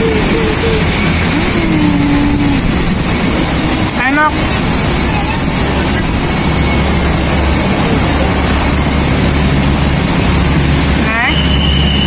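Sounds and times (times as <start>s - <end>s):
low engine hum: 0.0s - 12.0s
nearby motor traffic: 0.0s - 12.0s.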